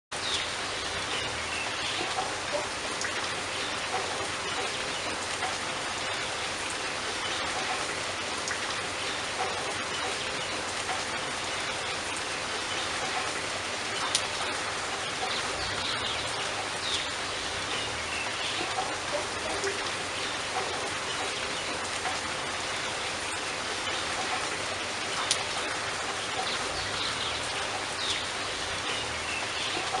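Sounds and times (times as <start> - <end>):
rain drops pattering: 0.1 - 30.0.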